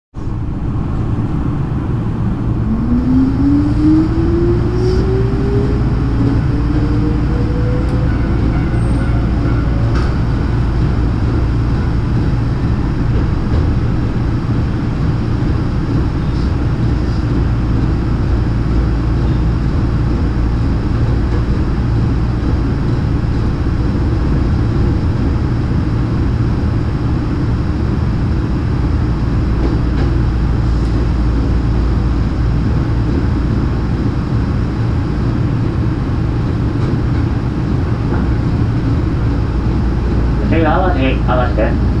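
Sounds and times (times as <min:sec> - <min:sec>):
train wheels rumbling on rail: 0:00.2 - 0:42.0.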